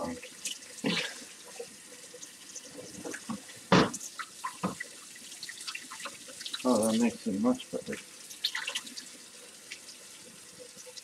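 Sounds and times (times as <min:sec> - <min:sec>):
tap water running into sink: 0:00.0 - 0:11.0
water splashing over egg: 0:00.3 - 0:11.0.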